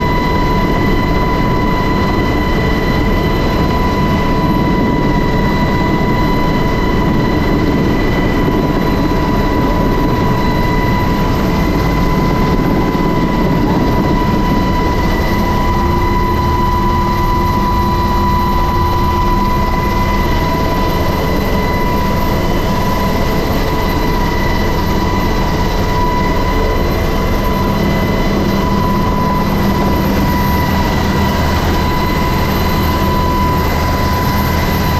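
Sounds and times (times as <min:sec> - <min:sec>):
helicopter engine and rotor: 0:00.0 - 0:34.9
high steady whine: 0:00.0 - 0:34.9.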